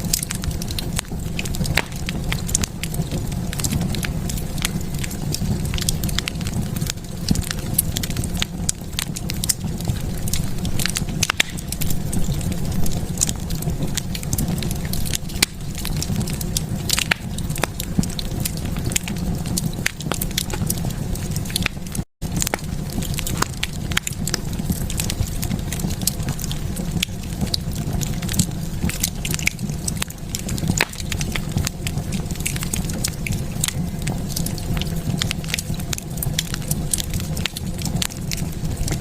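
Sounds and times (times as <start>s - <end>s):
low rumble: 0.0s - 39.0s
wood fire crackling and popping: 0.0s - 39.0s.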